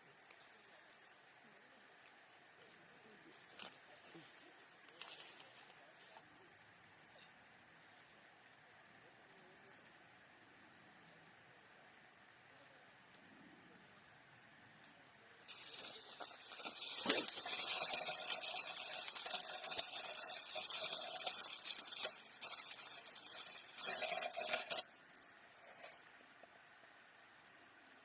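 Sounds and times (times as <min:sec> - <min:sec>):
stew sizzling and bubbling: 0:00.0 - 0:28.0.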